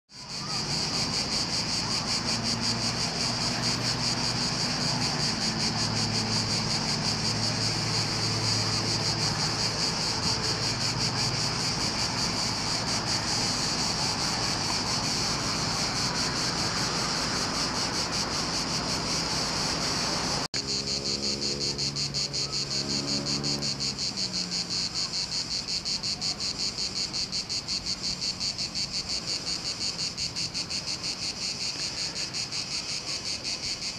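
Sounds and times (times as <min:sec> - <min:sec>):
insects chirring: 0:00.2 - 0:33.9.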